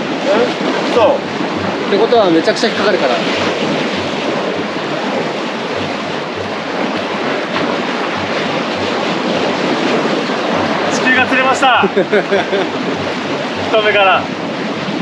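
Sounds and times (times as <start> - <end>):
surf breaking against breakwater: 0.0 - 15.0
wind buffeting microphone: 0.0 - 15.0.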